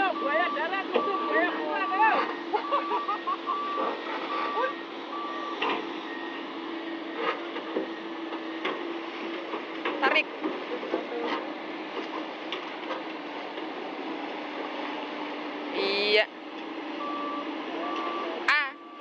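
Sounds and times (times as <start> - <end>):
excavator engine hum: 0.0 - 19.0.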